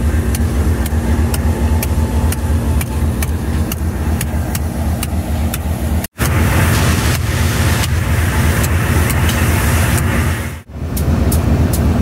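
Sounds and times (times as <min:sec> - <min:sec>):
locomotive engine idling: 0:00.0 - 0:12.0
steady hum: 0:00.0 - 0:12.0.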